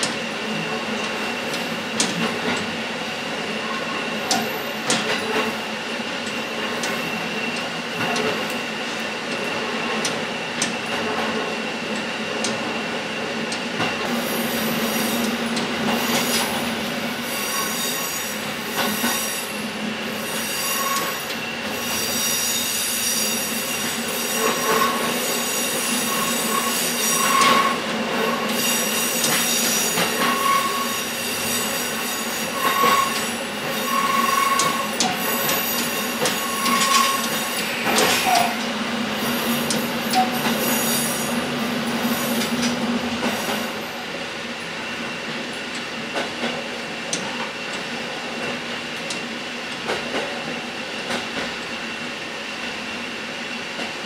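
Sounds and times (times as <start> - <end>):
railcar running noise: 0.0 - 54.0.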